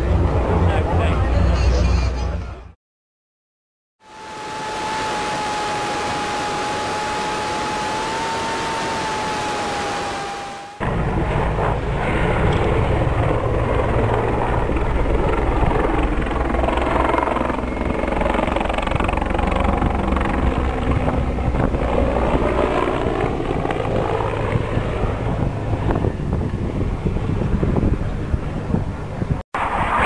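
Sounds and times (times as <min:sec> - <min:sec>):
helicopter rotor and engine: 0:04.0 - 0:29.4.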